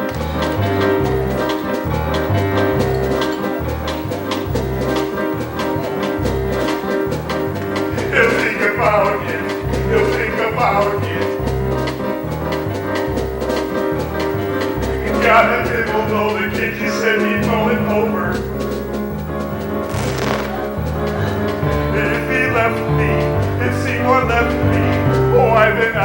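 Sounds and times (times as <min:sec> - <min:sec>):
upbeat swing instrumental: 0:00.0 - 0:26.0.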